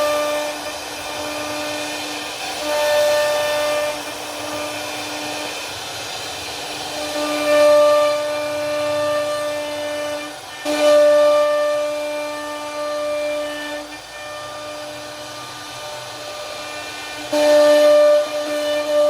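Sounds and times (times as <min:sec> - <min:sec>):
router spindle whining carving wood: 0:00.0 - 0:19.0.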